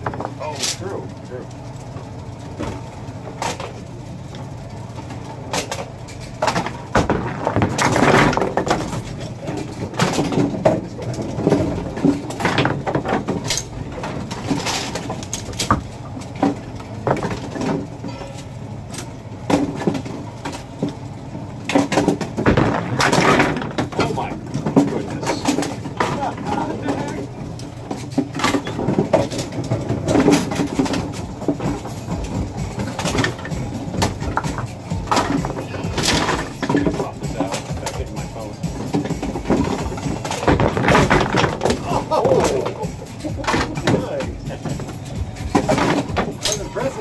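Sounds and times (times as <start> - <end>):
machinery and pins clanking: 0.0 - 47.0
motor hum: 0.0 - 47.0.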